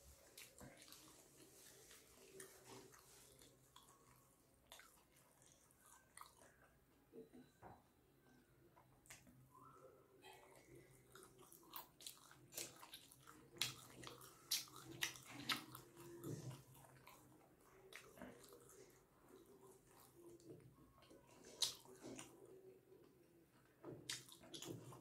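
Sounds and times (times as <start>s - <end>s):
person chewing food: 0.0s - 7.5s, 8.8s - 25.0s.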